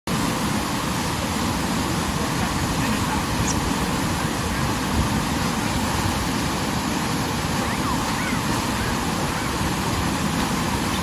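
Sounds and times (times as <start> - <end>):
pumped water rushing and breaking: 0.1 - 11.0.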